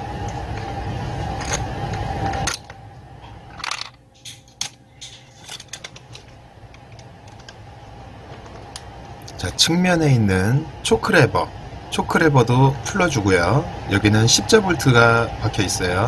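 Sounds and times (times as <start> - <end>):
steady hum with held tone: 0.0 - 16.0.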